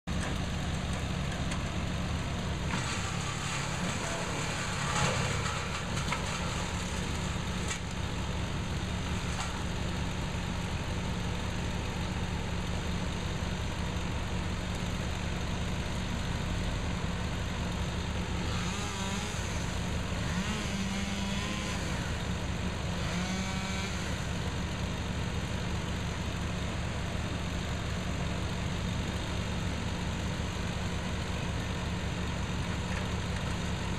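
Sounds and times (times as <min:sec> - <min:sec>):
wood chipper engine idling: 0:00.1 - 0:33.9.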